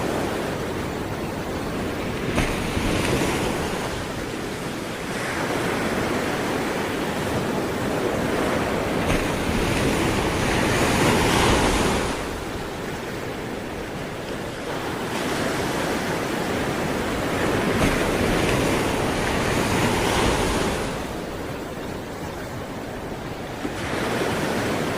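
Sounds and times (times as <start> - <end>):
sea waves breaking on shore: 0.0 - 24.9
wind on microphone: 0.0 - 24.9.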